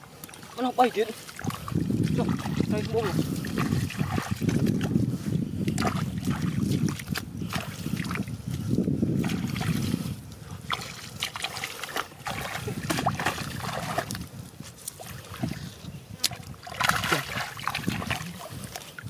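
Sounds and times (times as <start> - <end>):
muddy water splashing: 0.0 - 19.0.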